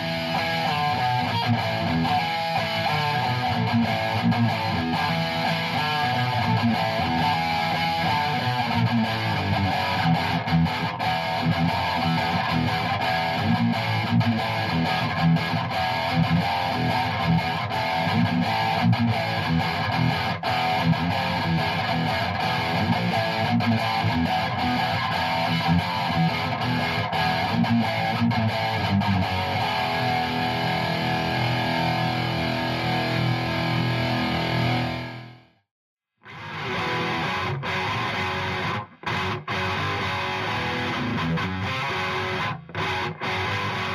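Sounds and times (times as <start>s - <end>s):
distorted electric guitar riff: 0.0s - 35.5s, 36.2s - 43.9s.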